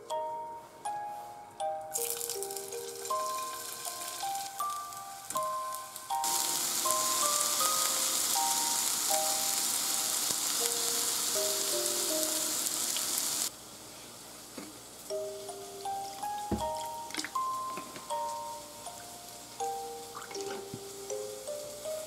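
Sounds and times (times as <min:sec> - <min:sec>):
light plucked melody: 0:00.0 - 0:12.9, 0:15.0 - 0:22.0
patties sizzling in oil in a pan: 0:01.9 - 0:22.0.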